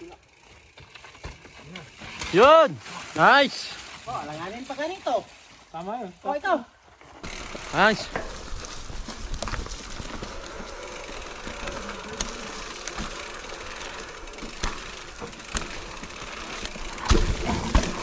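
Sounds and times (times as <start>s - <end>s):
bike rattling: 0.0s - 18.0s
bike tyres rolling over dirt: 0.0s - 18.0s.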